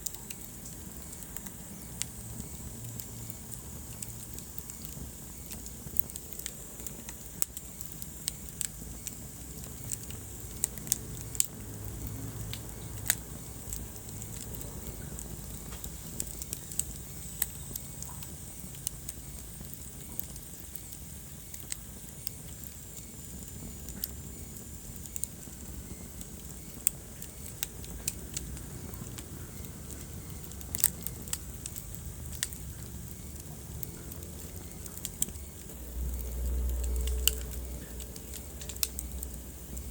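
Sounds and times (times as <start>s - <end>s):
fire low rumble and hiss: 0.0s - 39.9s
wood fire crackling and popping: 0.0s - 39.9s.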